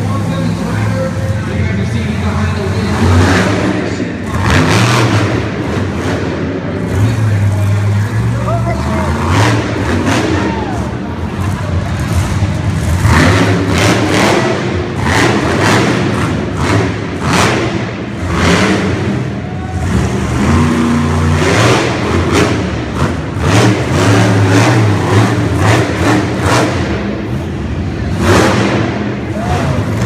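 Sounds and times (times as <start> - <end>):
monster truck engine revving: 0.0 - 30.0.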